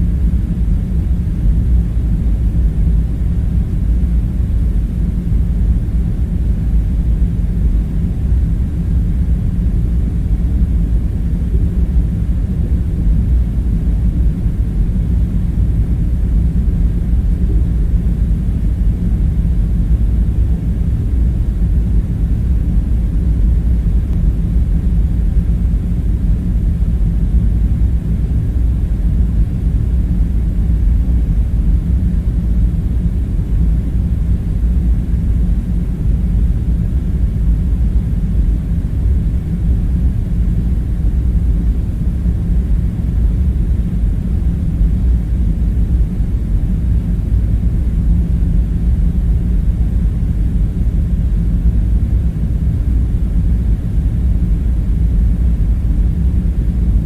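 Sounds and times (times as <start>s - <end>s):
faint hum: 0.0s - 57.0s
low machinery rumble: 0.0s - 57.0s.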